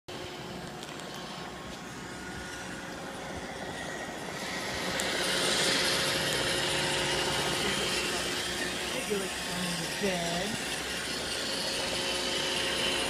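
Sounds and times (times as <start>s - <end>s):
robot vacuum whirring: 0.6s - 13.0s.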